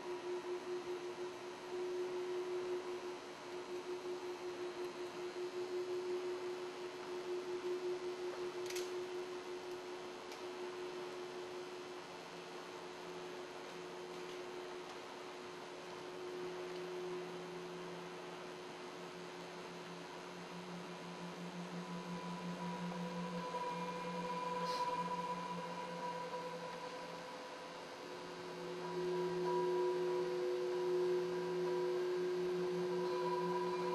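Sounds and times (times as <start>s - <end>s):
droning music with held tones: 0.0s - 33.9s.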